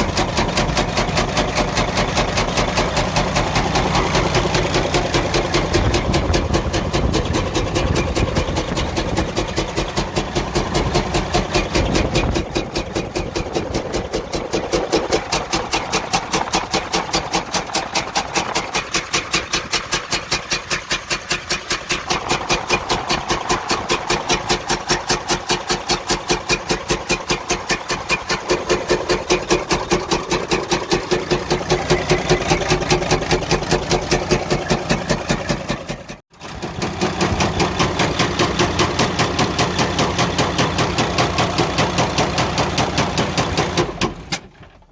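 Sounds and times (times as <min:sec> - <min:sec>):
diesel engine knocking: 0:00.0 - 0:44.4.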